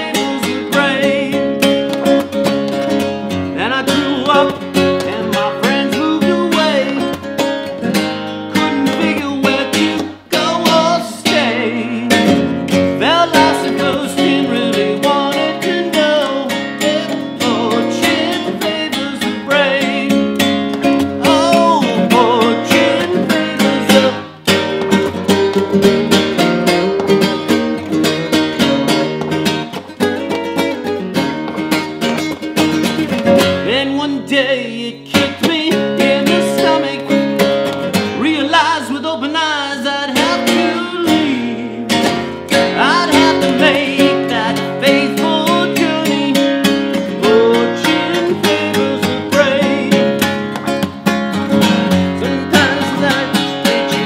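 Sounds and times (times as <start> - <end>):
person singing: 0.0 - 29.8, 33.1 - 54.0
nylon-string guitar strumming: 0.0 - 54.0.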